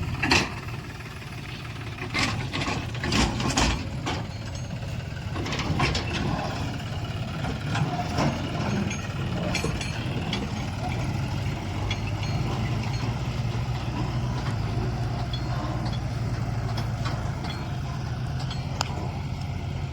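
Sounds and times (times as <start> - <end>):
heavy diesel machinery running: 0.0 - 19.9
knocks and clanks: 1.8 - 19.8.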